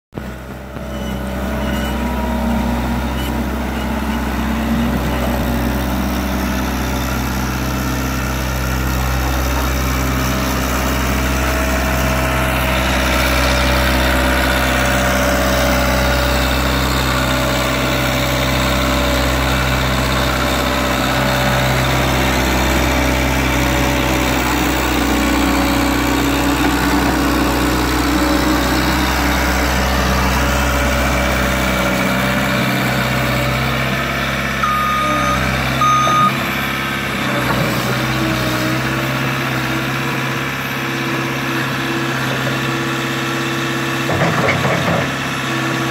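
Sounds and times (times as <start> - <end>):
diesel engine running: 0.2 - 45.9.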